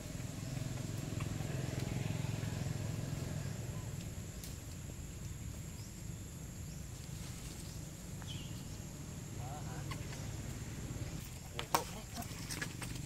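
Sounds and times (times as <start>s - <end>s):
low engine-like drone: 0.0s - 11.6s.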